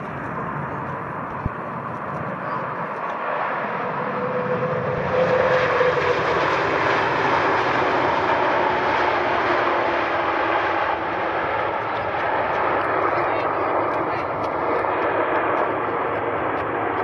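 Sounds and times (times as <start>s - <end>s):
airplane engines passing: 0.0s - 17.0s.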